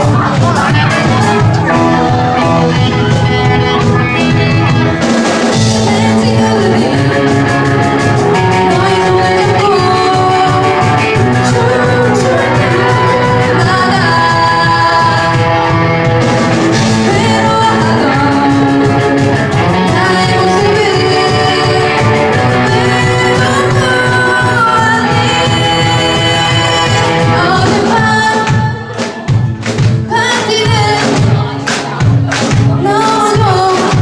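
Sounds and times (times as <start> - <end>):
live rock band playing: 0.0 - 34.0
woman singing: 0.0 - 34.0.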